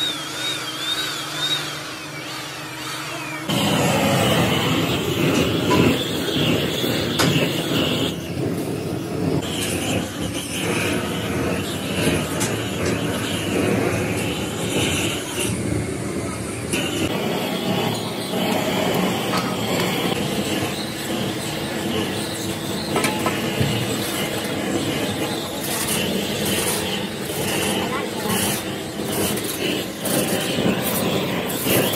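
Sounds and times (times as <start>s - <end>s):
gas torch flame roaring: 0.0s - 31.9s.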